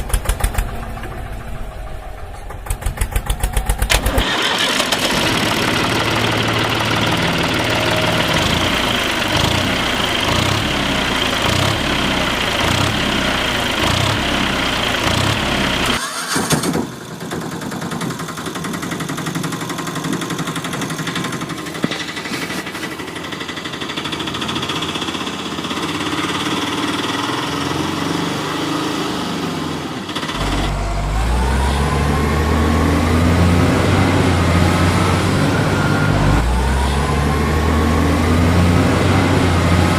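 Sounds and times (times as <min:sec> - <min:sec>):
engine revving: 0:00.0 - 0:17.1, 0:18.6 - 0:39.9
engine running with low pulse: 0:00.0 - 0:28.0, 0:29.7 - 0:39.9.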